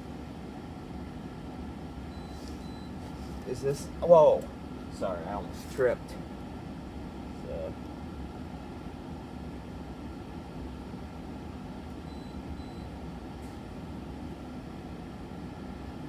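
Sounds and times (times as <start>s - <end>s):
room noise hum: 0.0s - 16.0s.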